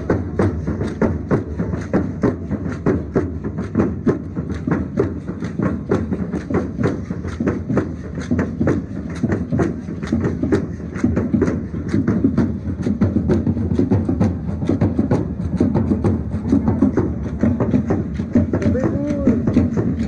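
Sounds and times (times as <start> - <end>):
drum beating: 0.0 - 20.0.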